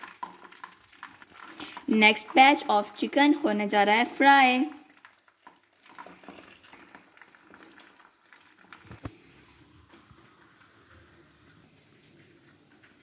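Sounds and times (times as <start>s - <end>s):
chicken frying in hot oil: 0.0s - 13.0s
soda fizzing over ice: 0.0s - 13.0s.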